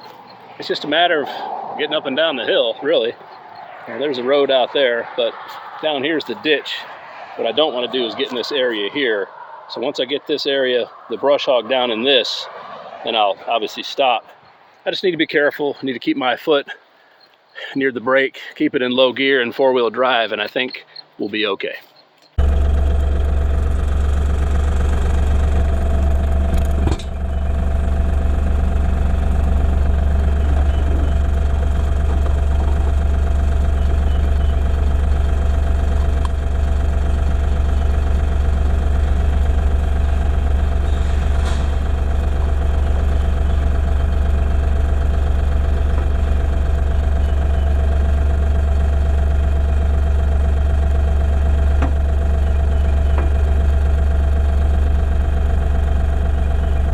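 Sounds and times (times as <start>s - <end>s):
tractor diesel engine droning: 0.0s - 14.5s, 22.4s - 56.9s.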